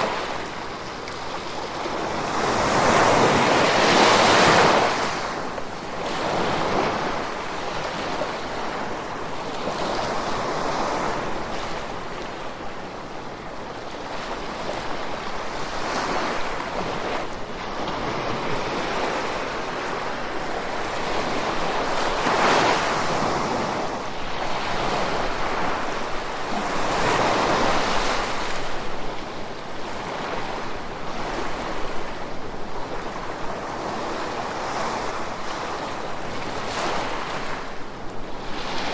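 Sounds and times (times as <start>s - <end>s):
ocean waves washing ashore: 0.0s - 38.9s.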